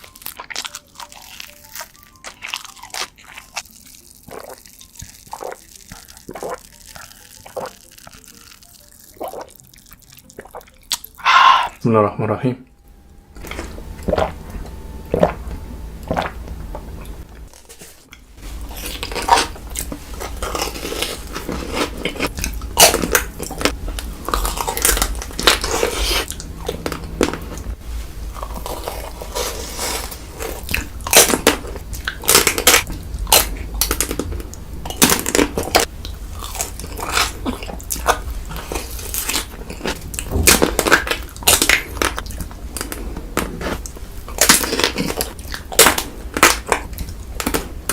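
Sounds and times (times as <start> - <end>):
chewing crunchy food: 0.0 - 11.2, 13.4 - 47.9.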